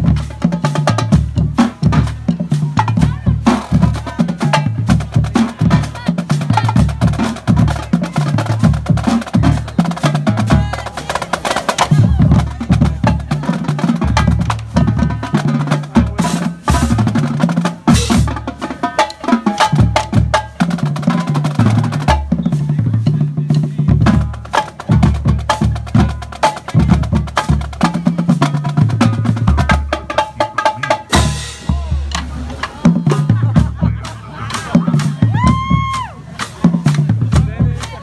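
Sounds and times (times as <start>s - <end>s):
snare drums rolling: 0.0s - 23.2s, 23.9s - 38.0s
marching bass drums: 0.0s - 38.0s.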